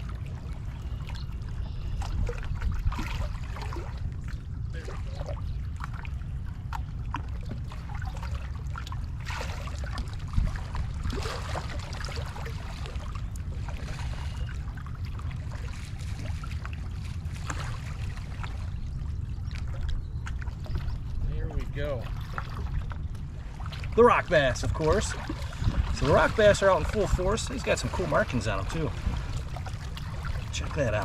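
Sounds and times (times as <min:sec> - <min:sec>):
low rumble: 0:00.0 - 0:31.0
waves lapping against rocks: 0:00.0 - 0:31.0.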